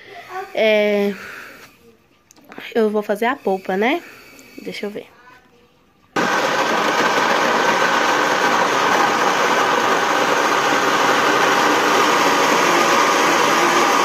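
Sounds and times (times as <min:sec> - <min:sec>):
blender running: 0:00.0 - 0:01.8, 0:03.2 - 0:04.9, 0:06.2 - 0:14.0.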